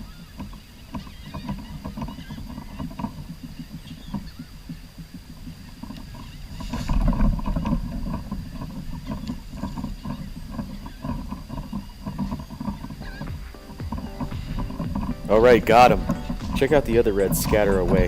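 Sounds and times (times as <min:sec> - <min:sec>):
fishing reel ticking: 0:00.0 - 0:18.0
low rumble of hull and water: 0:00.0 - 0:18.0.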